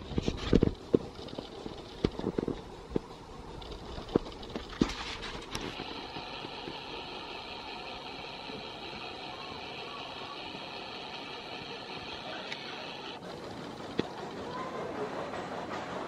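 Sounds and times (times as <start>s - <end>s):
faint high hum: 0.0s - 15.1s.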